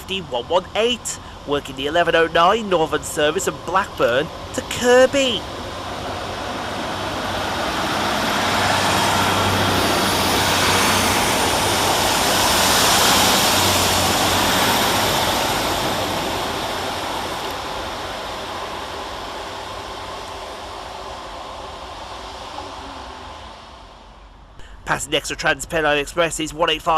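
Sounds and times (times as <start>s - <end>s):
diesel engine hum: 0.0s - 26.9s
train wheel and rail noise: 0.0s - 26.9s.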